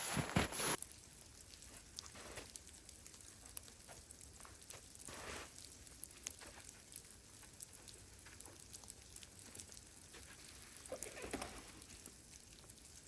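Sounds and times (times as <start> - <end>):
freezing rain pattering: 0.0 - 13.0.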